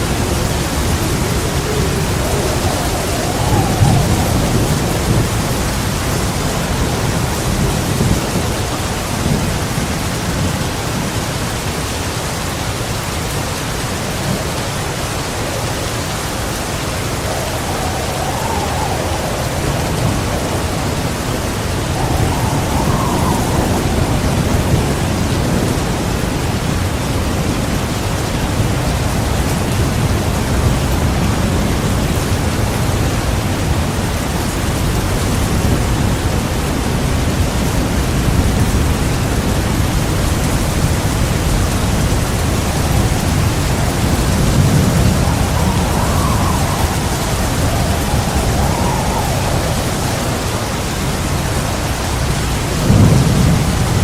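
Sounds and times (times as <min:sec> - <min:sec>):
heavy rain pouring: 0:00.0 - 0:54.0
low rolling thunder: 0:00.0 - 0:54.0.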